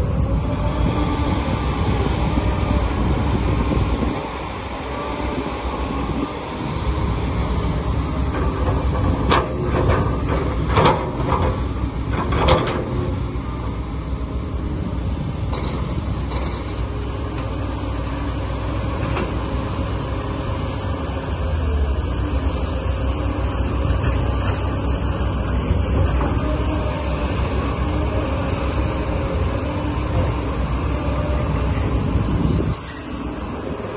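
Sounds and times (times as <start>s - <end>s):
vehicle motor running: 0.0s - 33.9s.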